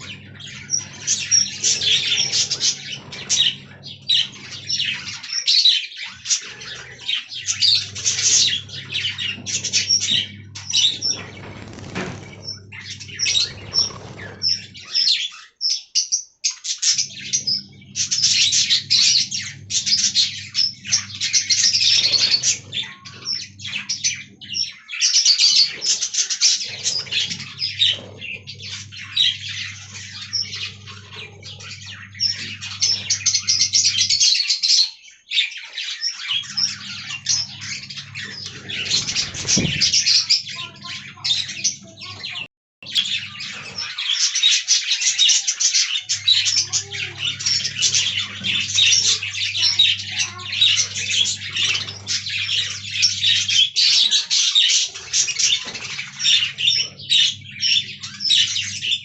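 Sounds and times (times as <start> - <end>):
budgerigars chirping and warbling: 0.0 - 59.0.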